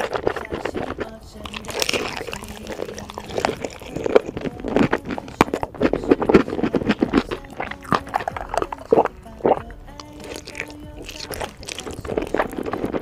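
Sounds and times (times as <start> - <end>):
sip and swallow: 0.0 - 13.0
wet chewing and smacking: 0.0 - 13.0.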